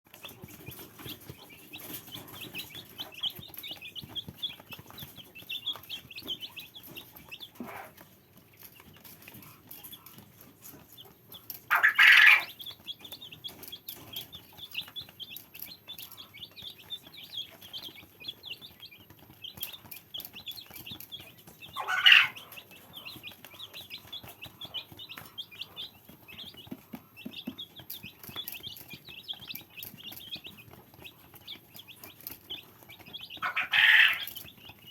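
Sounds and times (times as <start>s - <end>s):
chicks cheeping: 0.1s - 34.9s.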